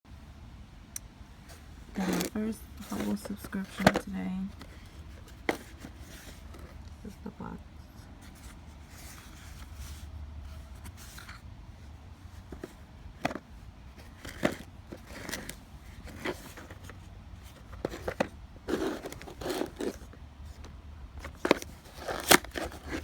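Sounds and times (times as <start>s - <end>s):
small box handled and opened: 1.4s - 23.0s.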